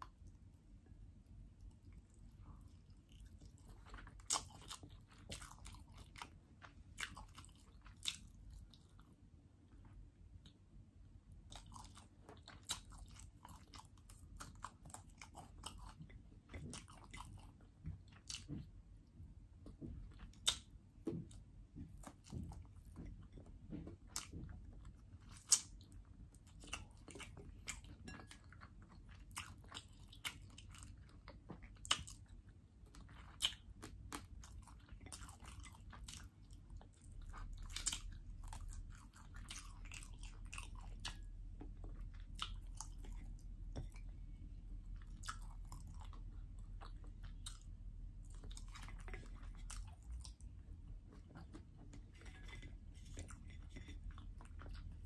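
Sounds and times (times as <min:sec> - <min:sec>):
chewing and crunching food: 0:00.0 - 0:55.0
low steady hum: 0:00.0 - 0:55.0.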